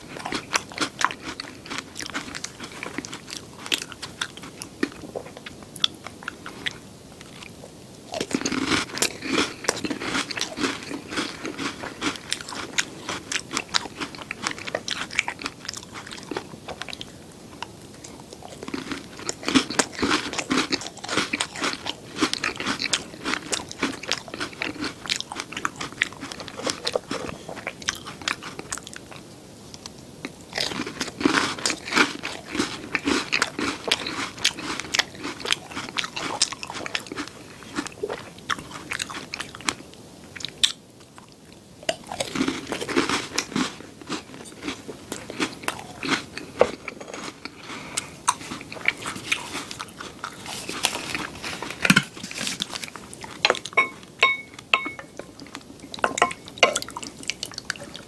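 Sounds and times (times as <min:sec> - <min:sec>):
chewing and crunching cookies: 0:00.0 - 0:58.0.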